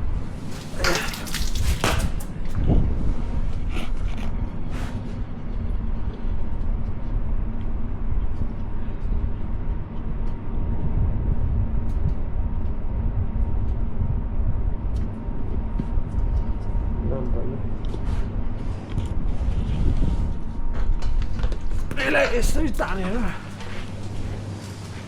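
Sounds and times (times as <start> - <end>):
faint constant hum: 0.0 - 25.0
low machinery rumble: 0.0 - 25.0.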